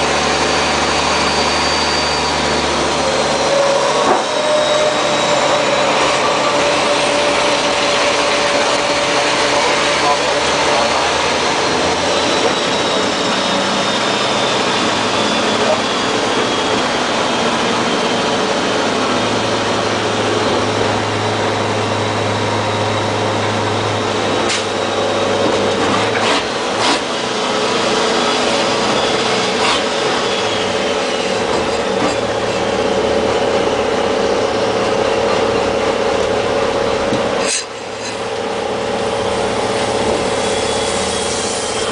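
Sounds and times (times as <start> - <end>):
diesel truck engine in cab: 0.0 - 41.9.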